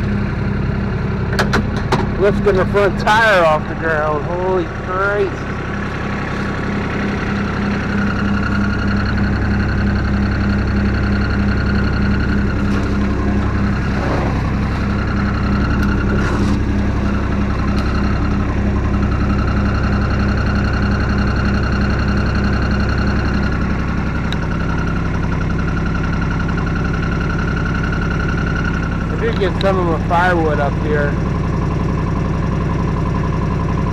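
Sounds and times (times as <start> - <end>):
utility vehicle engine under load: 0.0 - 33.9.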